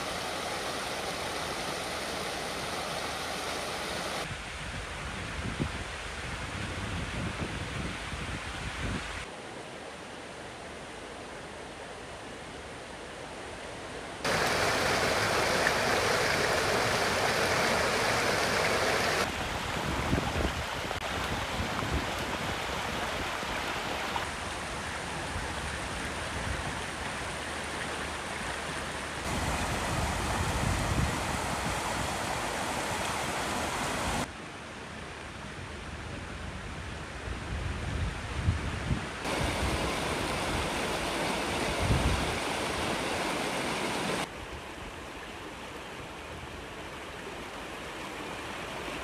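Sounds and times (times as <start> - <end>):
steady rushing outdoor noise: 0.0 - 49.0.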